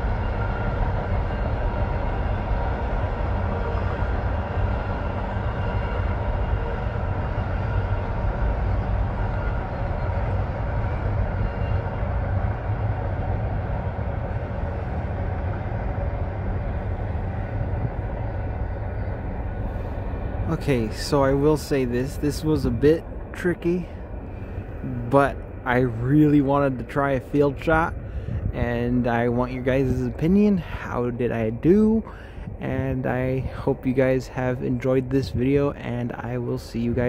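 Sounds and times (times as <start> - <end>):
train cars rumbling on rails: 0.0 - 37.0.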